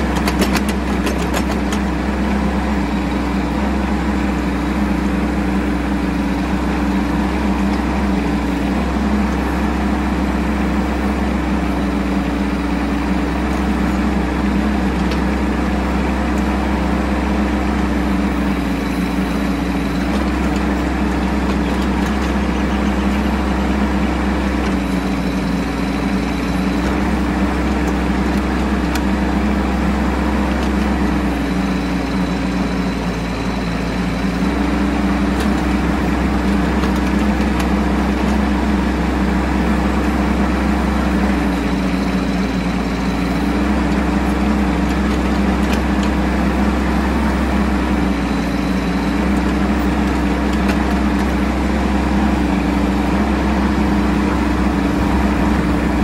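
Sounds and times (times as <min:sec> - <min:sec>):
mini excavator diesel engine: 0:00.0 - 0:56.0.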